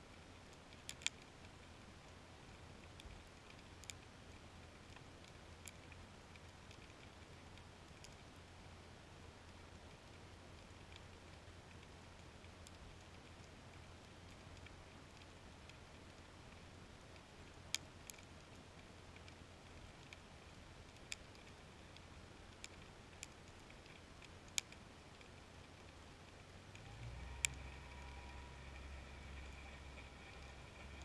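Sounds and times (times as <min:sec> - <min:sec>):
low steady hum: 0:00.0 - 0:31.0
sharp underwater clicks: 0:00.1 - 0:08.4, 0:09.4 - 0:31.0.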